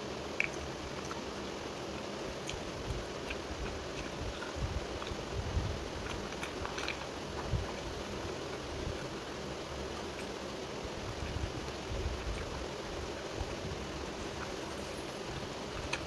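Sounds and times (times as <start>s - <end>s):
fingers squishing rice: 0.0s - 16.0s
steady hiss: 0.0s - 16.0s
chewing: 0.4s - 9.3s, 10.0s - 10.4s, 11.1s - 16.0s.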